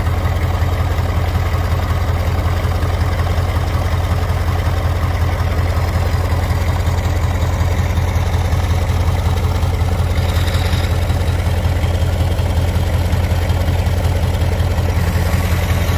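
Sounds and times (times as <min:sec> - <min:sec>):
diesel tractor engine idling: 0:00.0 - 0:15.9.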